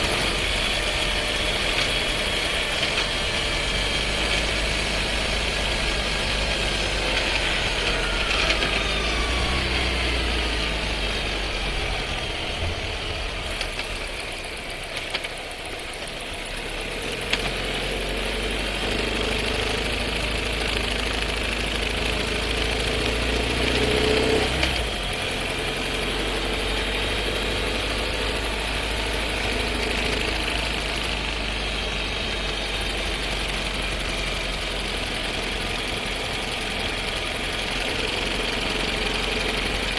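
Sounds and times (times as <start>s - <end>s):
gearbox rattle: 0.0s - 9.2s, 11.6s - 16.2s, 18.8s - 25.0s, 27.6s - 39.9s.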